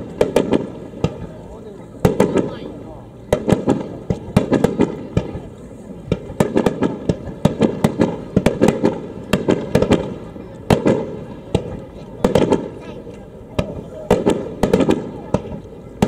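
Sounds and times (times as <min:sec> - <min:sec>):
firework shells bursting: 0:00.0 - 0:16.0.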